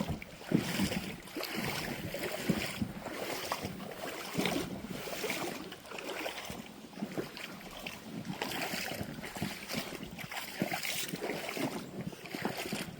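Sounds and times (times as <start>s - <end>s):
water lapping and splashing: 0.0s - 12.9s.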